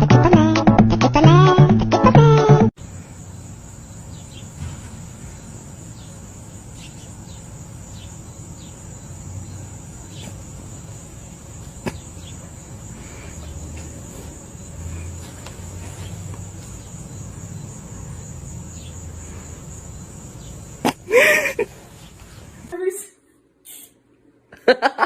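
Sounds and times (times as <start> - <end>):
insects trilling: 2.8 - 23.0.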